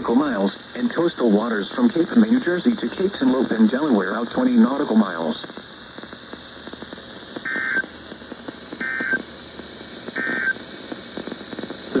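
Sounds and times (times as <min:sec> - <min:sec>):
buzzy digital data bursts: 0:00.0 - 0:12.0
radio hiss with crackle: 0:00.0 - 0:12.0.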